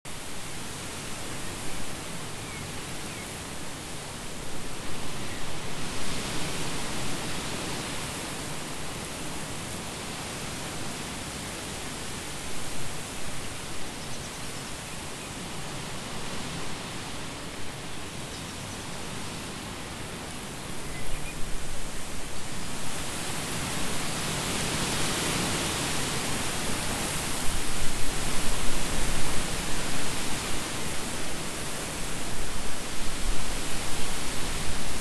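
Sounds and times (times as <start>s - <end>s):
strong wind through trees: 0.1s - 35.0s.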